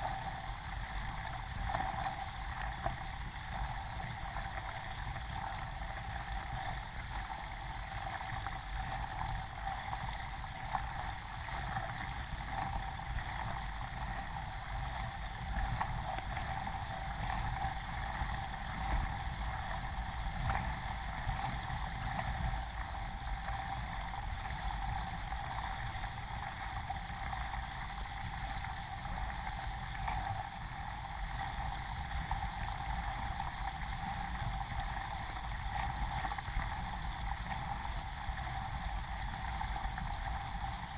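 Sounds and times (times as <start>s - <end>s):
steady low rumble: 0.0s - 40.9s
water rushing along kayak hull: 0.0s - 40.9s.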